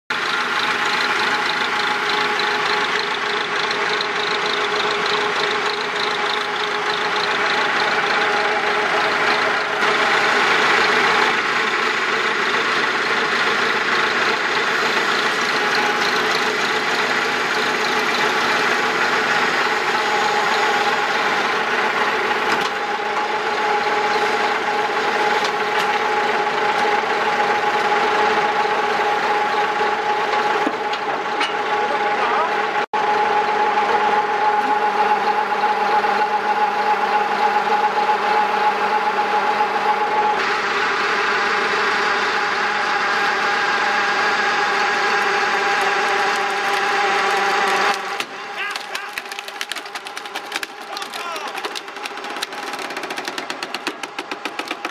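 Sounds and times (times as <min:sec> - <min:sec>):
engine whining under load: 0:00.1 - 0:54.9.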